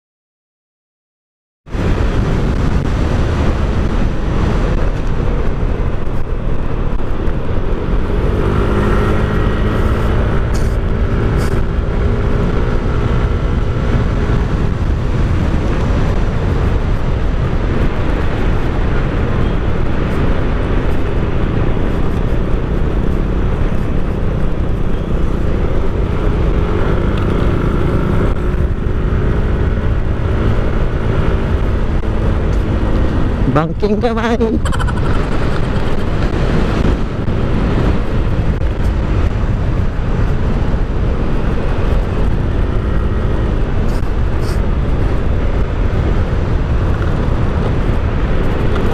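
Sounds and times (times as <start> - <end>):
wind rush on microphone: 1.7 - 48.9
scooter engine hum: 1.8 - 48.9.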